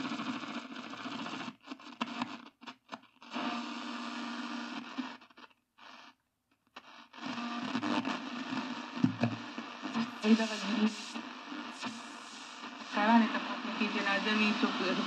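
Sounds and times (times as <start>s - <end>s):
radio static hiss and crackle: 0.0s - 15.0s.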